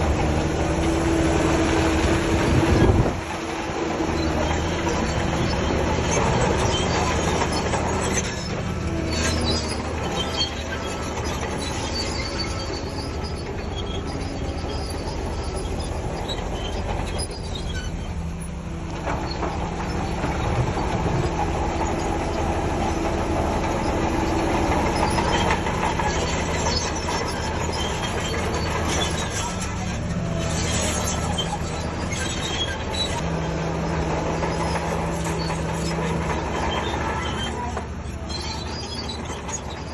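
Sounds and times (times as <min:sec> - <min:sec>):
diesel engine drone: 0:00.0 - 0:39.9
steel tracks clattering and squealing: 0:00.0 - 0:39.9.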